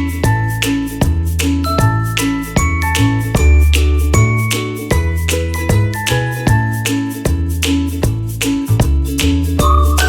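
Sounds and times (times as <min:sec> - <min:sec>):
jingly tune with bass and beat: 0:00.0 - 0:10.0.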